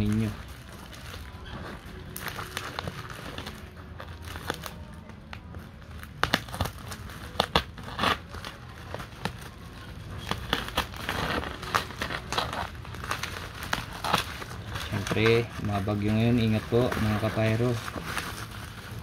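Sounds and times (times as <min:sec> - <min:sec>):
plastic crinkling: 0:00.0 - 0:19.0.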